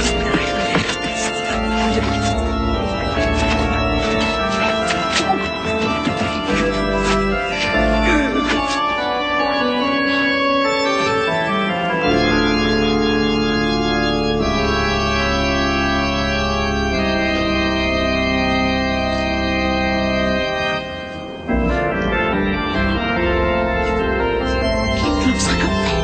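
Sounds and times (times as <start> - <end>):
organ sustained chords: 0.0 - 26.0.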